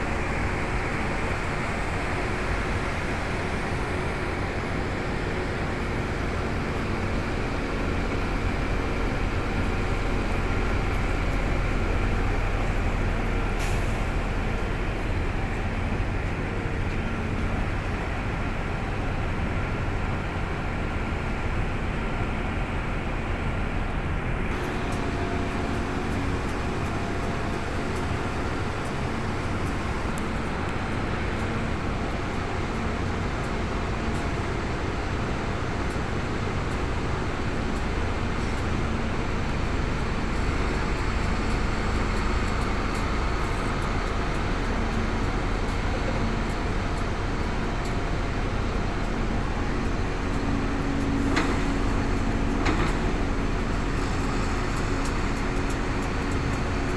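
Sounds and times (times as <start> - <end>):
diesel engines rumbling: 0.0 - 56.9.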